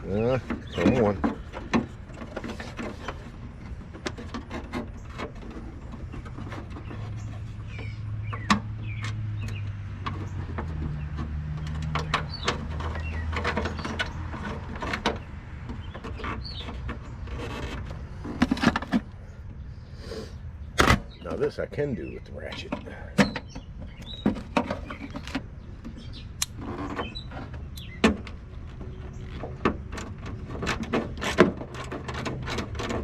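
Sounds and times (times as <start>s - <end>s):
metal clicks and knocks: 0.2s - 19.2s, 22.4s - 33.0s.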